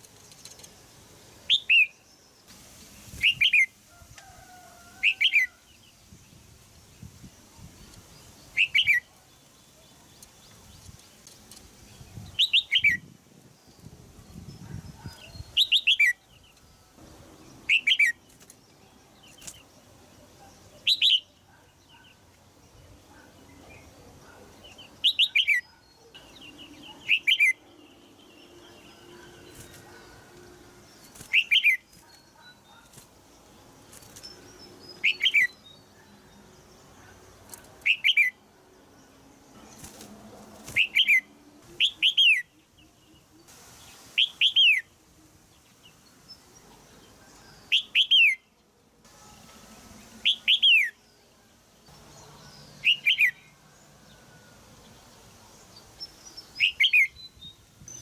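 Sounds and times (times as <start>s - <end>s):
bird chirping: 0.0s - 2.5s, 7.0s - 45.0s, 45.6s - 58.0s.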